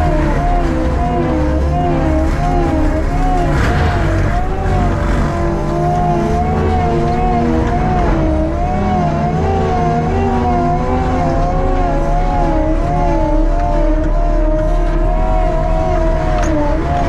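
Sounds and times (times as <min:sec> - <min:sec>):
machine engine drone: 0:00.0 - 0:17.0
slowly rising tone: 0:00.0 - 0:17.0
wavering whine: 0:00.0 - 0:17.0.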